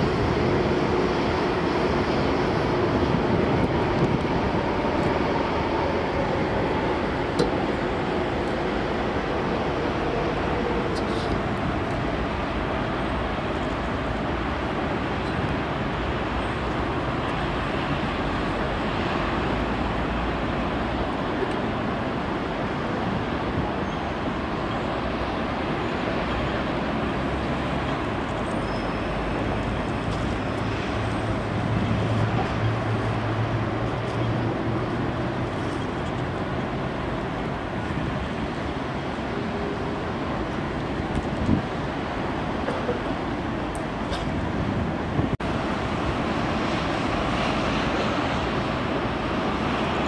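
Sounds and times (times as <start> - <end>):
distant jet engines roaring: 0.0 - 50.0.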